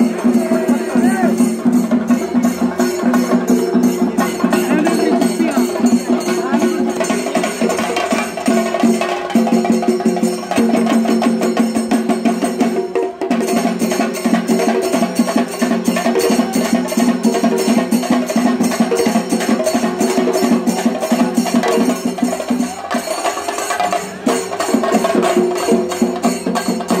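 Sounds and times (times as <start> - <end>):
fast rhythmic drumming: 0.0 - 27.0.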